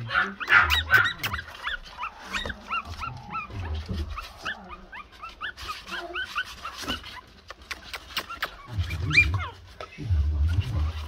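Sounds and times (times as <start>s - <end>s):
puppies whimpering and squeaking: 0.0s - 11.0s.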